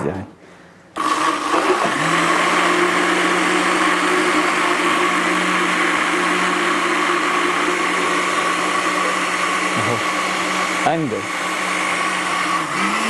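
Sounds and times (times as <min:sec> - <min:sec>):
blender motor humming: 0:01.0 - 0:13.0
thick liquid churning in blender: 0:01.0 - 0:13.0.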